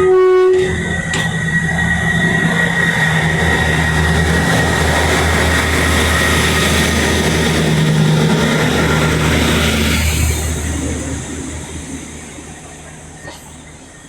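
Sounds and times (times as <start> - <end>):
diesel train engines running: 0.0 - 14.0.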